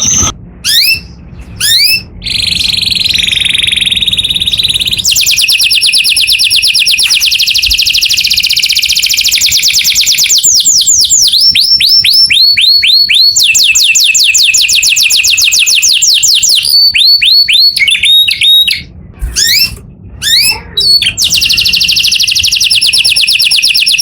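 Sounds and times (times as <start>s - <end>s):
canary singing with trills: 0.0s - 24.0s.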